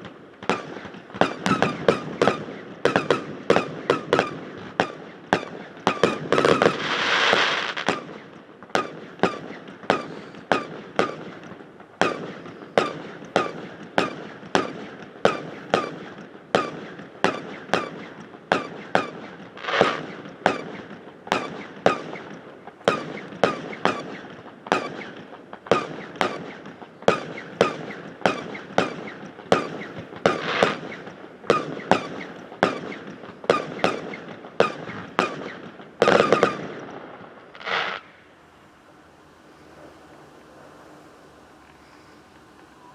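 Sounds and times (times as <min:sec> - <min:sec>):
firework bangs with ringing echo: 0:00.0 - 0:42.9
firework noisy bursts: 0:00.0 - 0:42.9.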